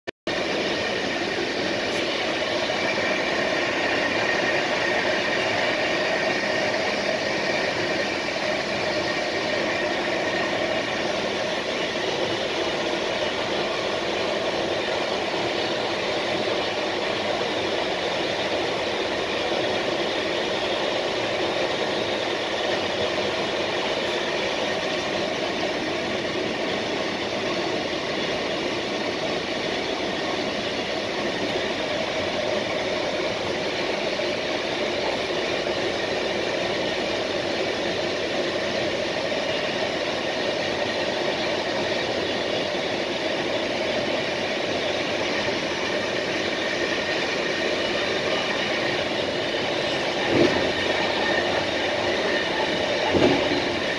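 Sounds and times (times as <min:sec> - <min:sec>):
train wheels rumbling on rails: 0:00.3 - 0:53.9.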